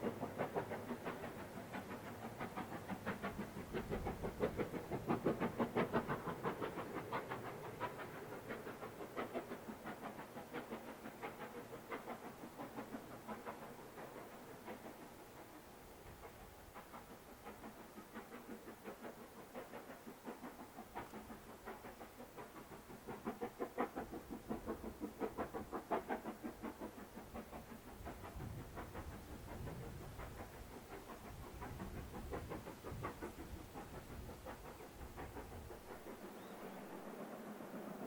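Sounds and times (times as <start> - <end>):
steam locomotive chugging: 0.0 - 38.0.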